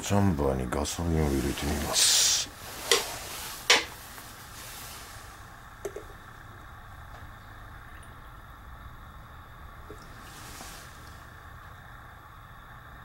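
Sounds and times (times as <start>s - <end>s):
gasoline trickling: 0.4s - 12.8s.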